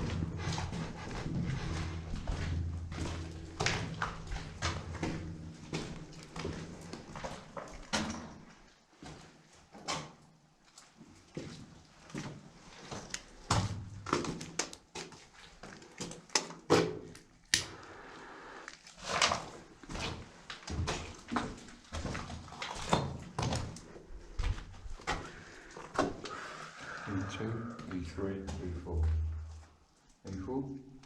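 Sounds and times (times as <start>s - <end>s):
footsteps in echoing tunnel: 0.0s - 17.2s, 19.6s - 31.0s.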